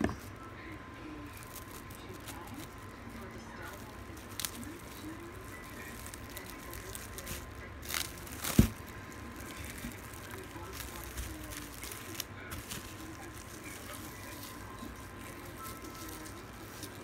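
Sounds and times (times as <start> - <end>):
cling wrap crinkling: 0.0 - 17.0.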